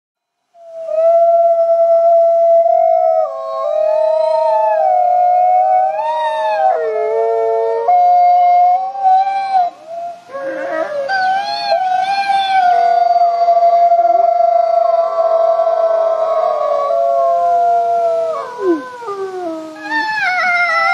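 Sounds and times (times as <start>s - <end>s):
wolves howling in chorus: 1.3s - 20.9s.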